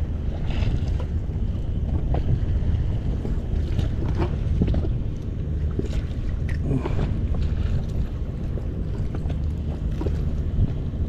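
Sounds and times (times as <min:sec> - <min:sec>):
knocks and rustles in boat: 0:00.0 - 0:11.0
wind buffeting microphone: 0:00.0 - 0:11.0.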